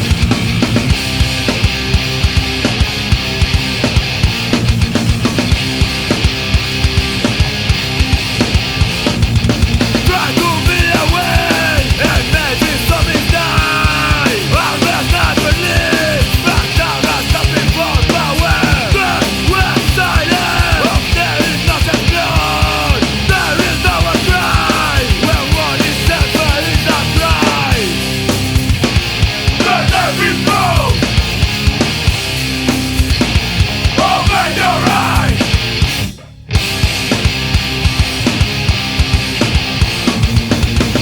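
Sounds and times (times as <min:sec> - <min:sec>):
rock music with drum beat: 0:00.0 - 0:41.0.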